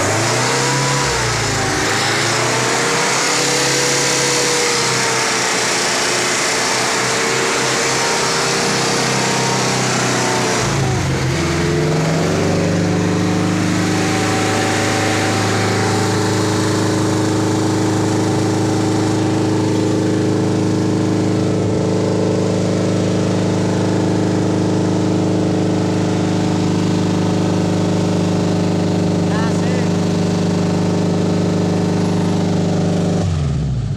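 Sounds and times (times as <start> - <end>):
car engine revving and idling: 0.0 - 33.9.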